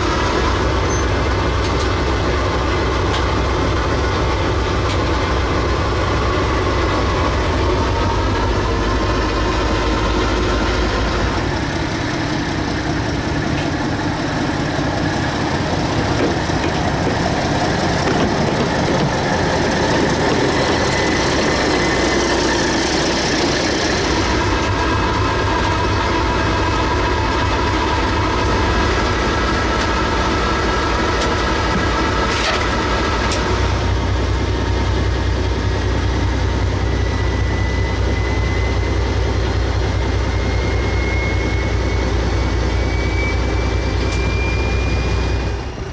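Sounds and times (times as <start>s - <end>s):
diesel locomotive engine drone: 0.0s - 45.9s
locomotive rumbling past on rails: 0.0s - 45.9s.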